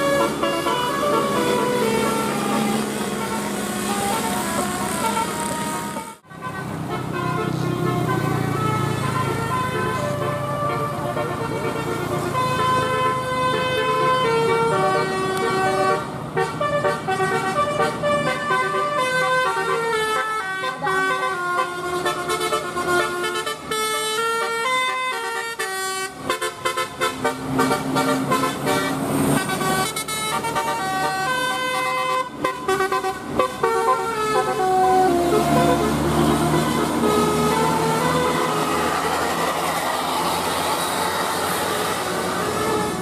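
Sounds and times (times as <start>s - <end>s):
musical bus horn tune: 0.0s - 43.0s.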